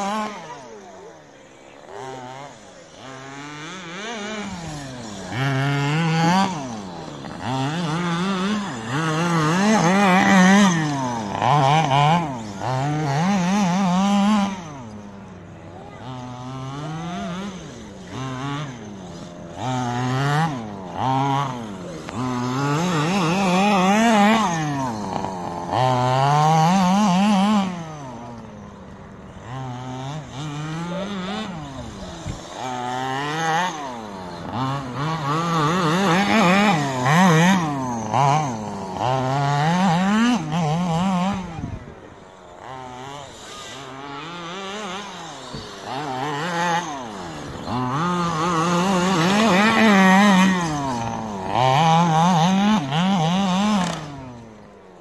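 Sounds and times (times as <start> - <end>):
small two-stroke engine revving: 0.0 - 55.0.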